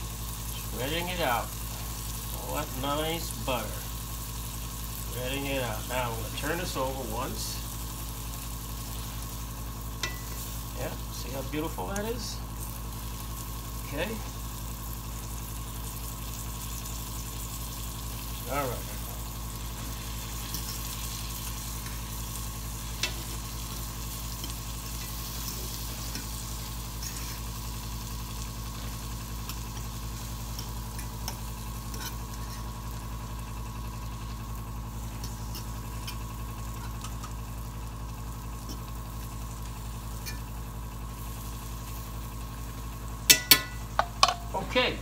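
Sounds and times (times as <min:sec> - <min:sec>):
steaks sizzling in a skillet: 0:00.0 - 0:44.3.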